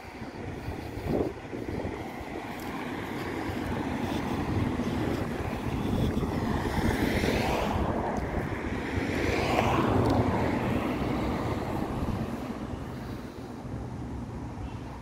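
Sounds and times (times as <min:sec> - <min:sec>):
vehicles driving past: 0:00.0 - 0:15.0.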